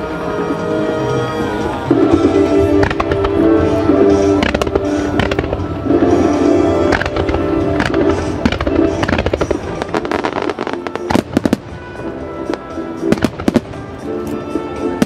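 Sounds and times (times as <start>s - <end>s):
music over loudspeakers: 0.0s - 15.0s
fireworks bangs and crackle: 1.8s - 15.0s.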